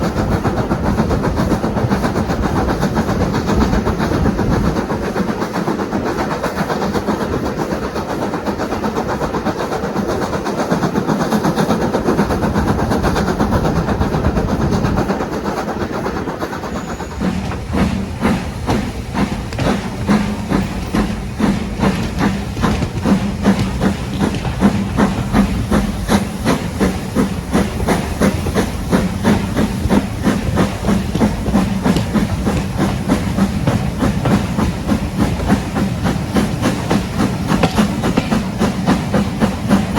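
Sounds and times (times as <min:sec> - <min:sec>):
steam hissing: 0:00.0 - 0:39.9
steam train rhythmic beat: 0:00.0 - 0:39.9.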